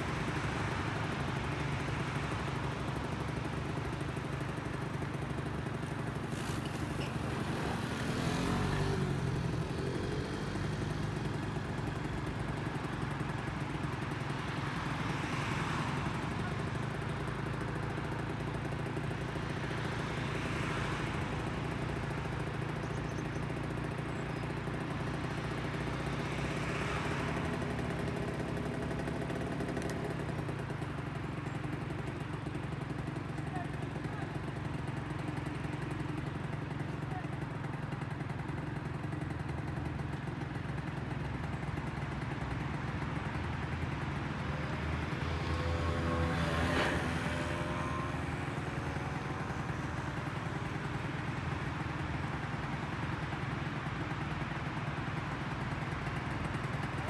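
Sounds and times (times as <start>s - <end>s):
small engine running: 0.2s - 57.0s.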